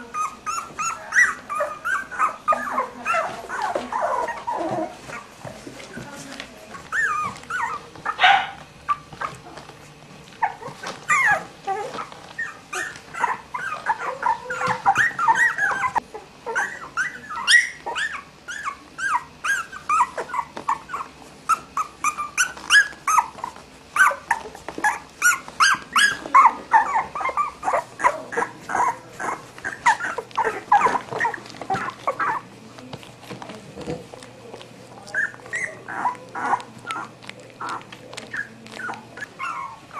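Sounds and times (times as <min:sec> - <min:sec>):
puppies whimpering and squeaking: 0:00.0 - 0:39.9.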